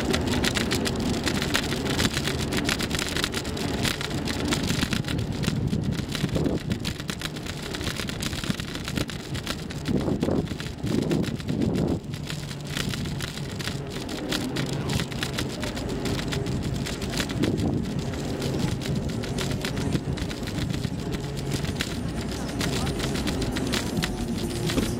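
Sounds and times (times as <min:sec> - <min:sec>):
bike rattling over road: 0:00.0 - 0:24.9
wind buffeting microphone: 0:00.9 - 0:24.9.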